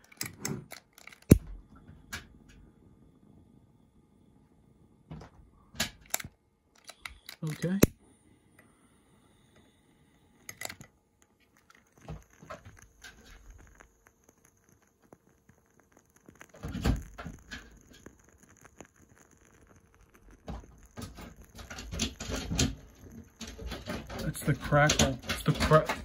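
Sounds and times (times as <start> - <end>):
candle wick crackling: 0.0 - 1.4, 5.9 - 26.0.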